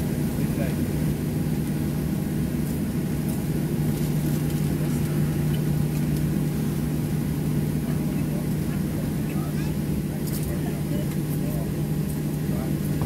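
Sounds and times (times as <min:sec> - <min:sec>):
jet engines humming: 0:00.0 - 0:13.0.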